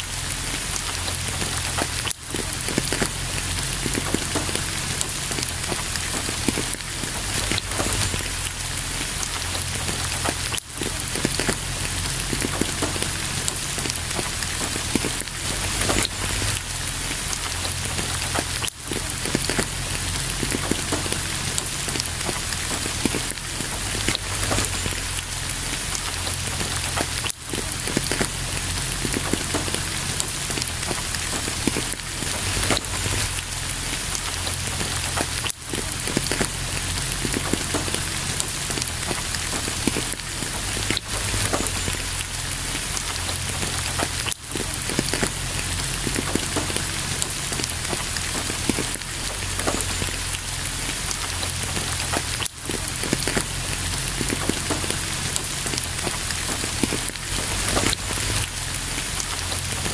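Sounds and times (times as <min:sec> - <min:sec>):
raindrops splashing: 0:00.0 - 0:59.9
steady rain: 0:00.0 - 0:59.9.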